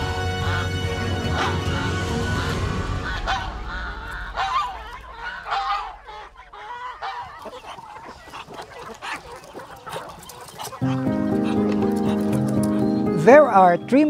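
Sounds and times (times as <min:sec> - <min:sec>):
fowl noises: 0:00.0 - 0:14.0
geese honking: 0:00.0 - 0:14.0.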